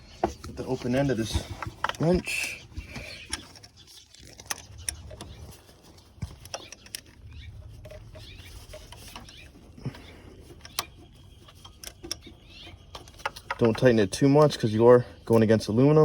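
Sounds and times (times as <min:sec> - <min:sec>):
faint low handling rumble: 0:00.0 - 0:16.0.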